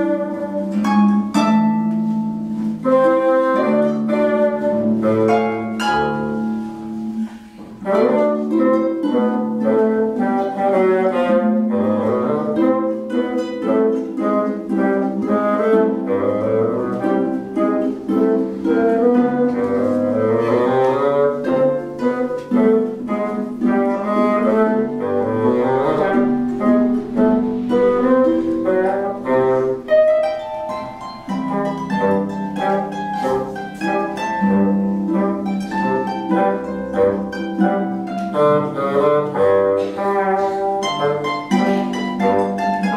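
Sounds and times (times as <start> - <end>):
low bowed string tones: 0.0 - 42.9
plucked string notes: 0.0 - 42.9.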